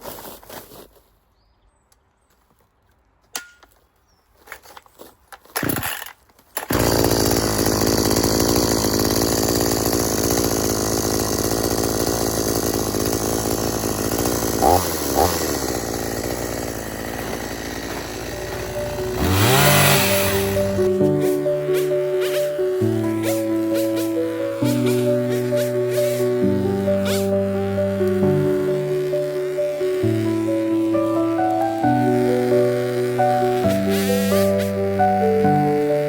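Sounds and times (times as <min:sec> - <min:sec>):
chainsaw running and revving: 0:06.6 - 0:36.0.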